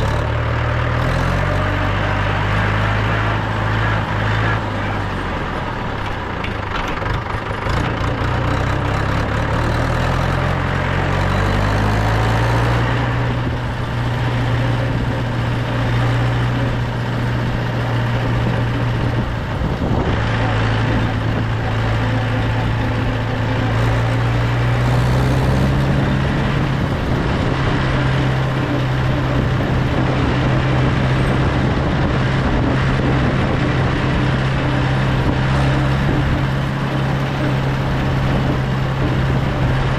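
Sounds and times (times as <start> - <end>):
tractor diesel engine pulling: 0.0 - 39.9.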